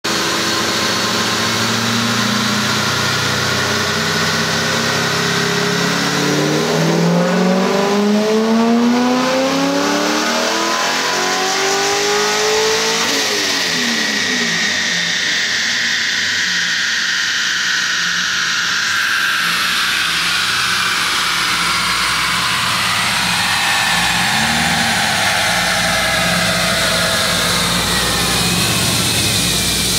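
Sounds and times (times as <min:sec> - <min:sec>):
supercharger whine: 0:00.0 - 0:29.9
car engine revving: 0:00.1 - 0:29.9.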